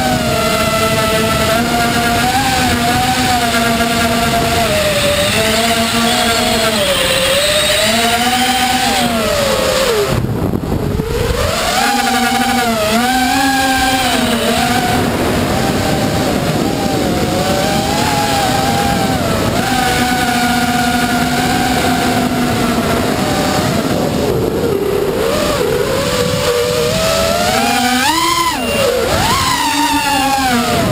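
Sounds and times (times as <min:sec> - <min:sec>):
model airplane motor and propeller: 0:00.0 - 0:30.9.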